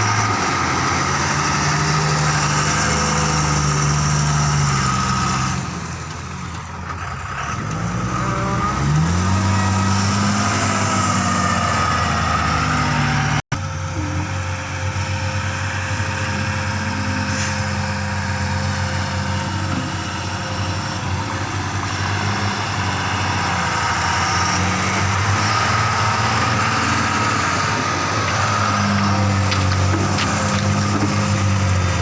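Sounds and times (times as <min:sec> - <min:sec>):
heavy diesel engine under load: 0:00.0 - 0:32.0.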